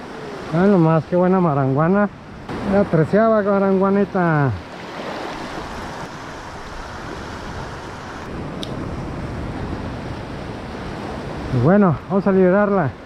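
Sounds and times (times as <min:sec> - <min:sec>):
surf washing over sand: 0:00.0 - 0:13.0.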